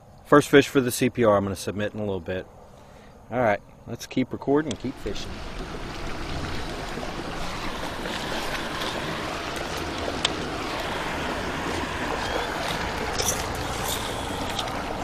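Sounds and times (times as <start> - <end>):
water around a kayak: 0.0 - 15.0
wind: 0.0 - 15.0.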